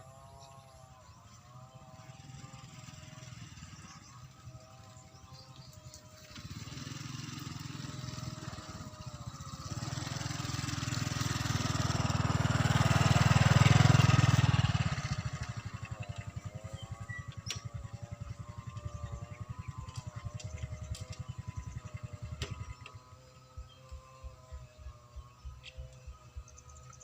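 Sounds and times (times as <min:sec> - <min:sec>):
small engine passing by: 0:00.0 - 0:27.0.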